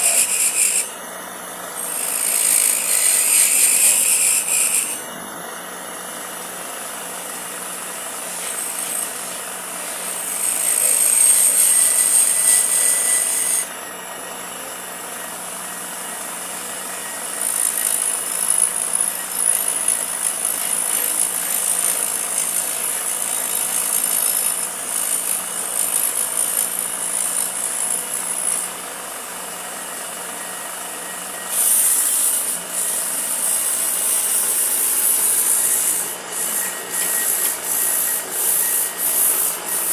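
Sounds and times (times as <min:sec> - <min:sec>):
power tool humming: 0:00.0 - 0:39.9.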